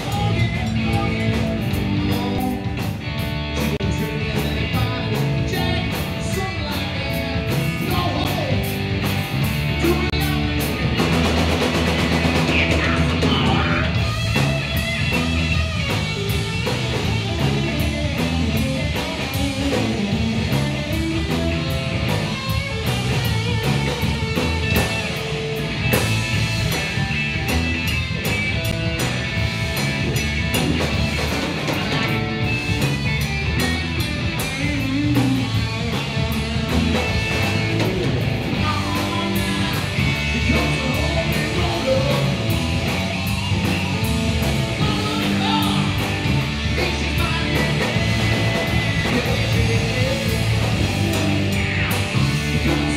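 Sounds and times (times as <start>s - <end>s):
distorted electric guitars: 0.0s - 52.9s
drum kit and cymbals: 0.0s - 52.9s
electric bass: 0.0s - 52.9s.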